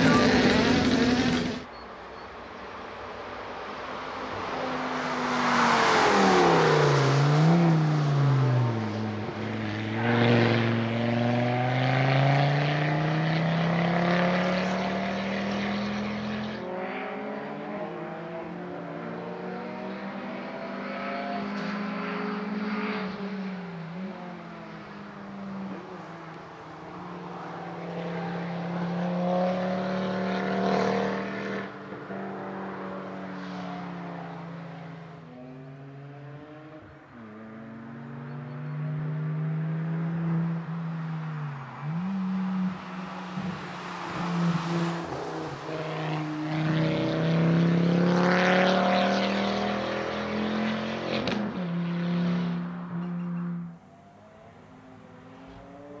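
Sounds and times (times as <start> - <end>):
car engine accelerating and braking: 0.0 - 1.8, 3.4 - 56.0.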